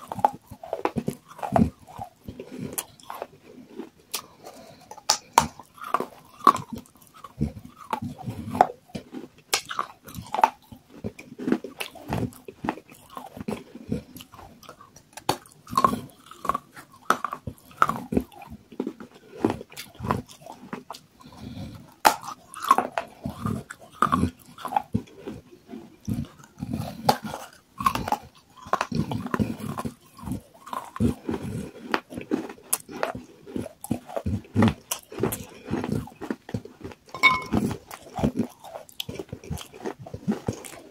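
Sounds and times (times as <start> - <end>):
clay cracking between teeth: 0.0 - 21.1, 22.0 - 25.0, 27.0 - 37.0
gritty chewing: 0.0 - 40.9.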